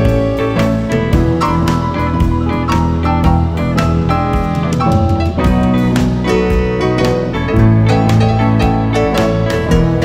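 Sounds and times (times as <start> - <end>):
blues-rock band playing: 0.0 - 10.0
steady drum beat: 0.0 - 10.0.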